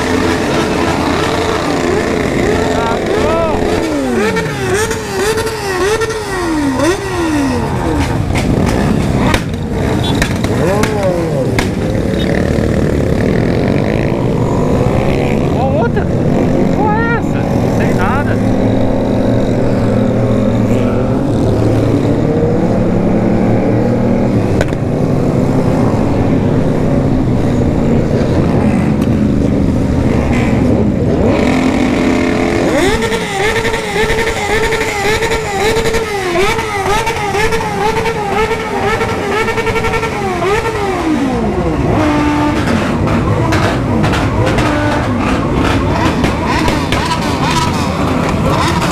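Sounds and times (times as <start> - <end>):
motorcycle engine revving: 0.0 - 48.9
motorcycle engines running: 0.0 - 48.9.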